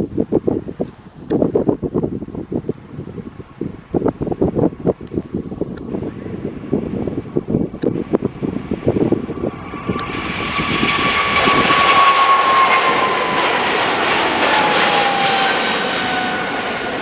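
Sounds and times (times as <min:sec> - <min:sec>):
wind gusts on microphone: 0:00.0 - 0:17.0
jet airliner taking off: 0:01.6 - 0:17.0.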